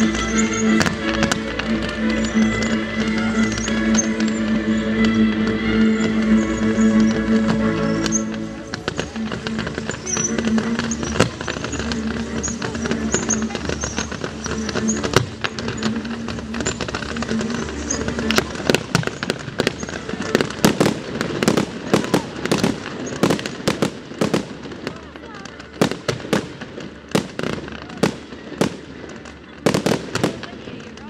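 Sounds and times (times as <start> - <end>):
fireworks bangs and cracks: 0.0 - 31.0.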